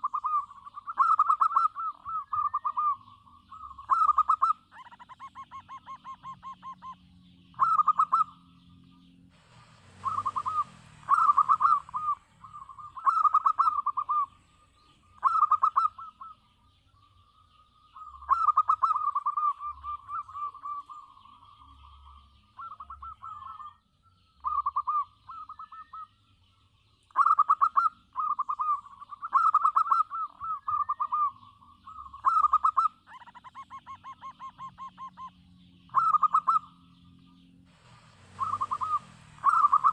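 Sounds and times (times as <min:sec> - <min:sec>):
dove cooing: 0:00.0 - 0:08.4, 0:09.8 - 0:16.5, 0:17.9 - 0:23.8, 0:24.4 - 0:26.1, 0:27.1 - 0:36.8, 0:37.8 - 0:39.9.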